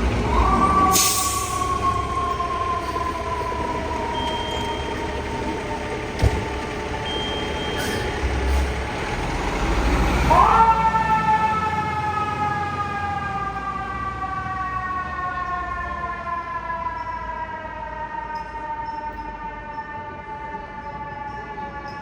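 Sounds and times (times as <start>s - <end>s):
truck engine low rumble: 0.0s - 21.9s
fire truck mechanical siren: 0.0s - 22.0s.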